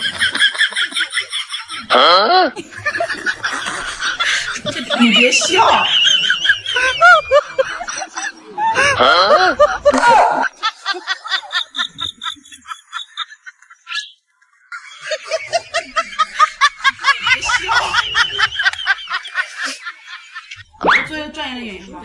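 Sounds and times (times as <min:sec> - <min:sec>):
person snickering and laughing: 0:00.0 - 0:14.0, 0:14.7 - 0:20.6.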